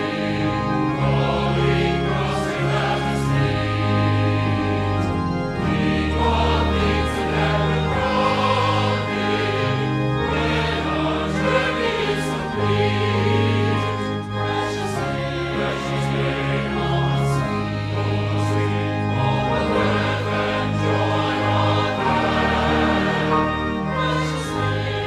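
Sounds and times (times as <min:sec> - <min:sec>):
choir singing church music: 0:00.0 - 0:25.0.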